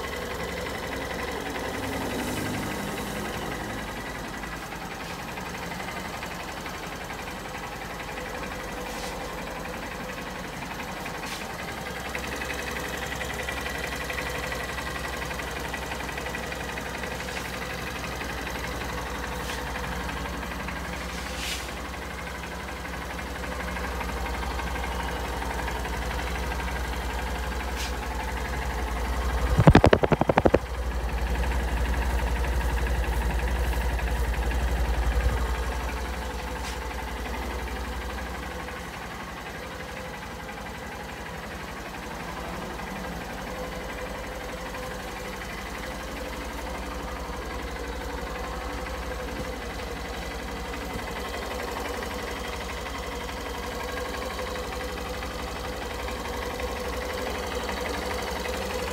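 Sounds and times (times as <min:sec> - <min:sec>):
motorcycle engine idling: 0:00.0 - 0:58.9.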